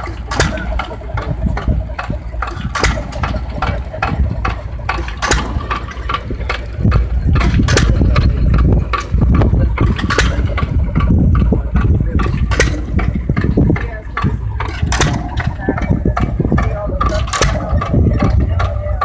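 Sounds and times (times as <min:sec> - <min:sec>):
stationary gas engines running: 0:00.0 - 0:19.0.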